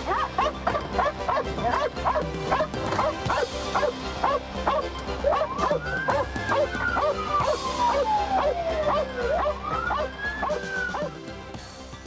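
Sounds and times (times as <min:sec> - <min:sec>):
dog barking and yipping: 0:00.0 - 0:11.2
background music with held notes: 0:00.0 - 0:12.0.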